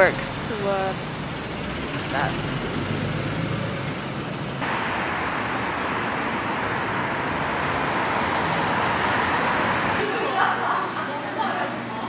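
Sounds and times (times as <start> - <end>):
passing cars and tyres hiss: 0.0 - 12.0.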